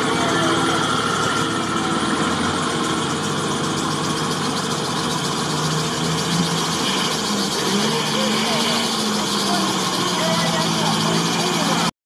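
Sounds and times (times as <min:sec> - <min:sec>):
suv engine running: 0:00.0 - 0:11.9
water sloshing around vehicle: 0:00.0 - 0:11.9.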